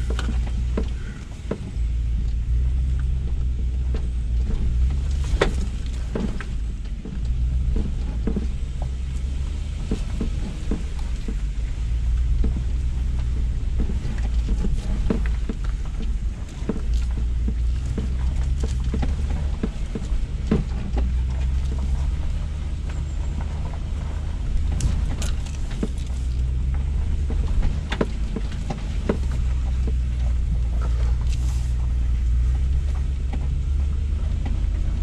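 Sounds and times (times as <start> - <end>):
engine and tyres rumbling: 0.0 - 35.0
knocks and clunks over rocks: 0.0 - 35.0.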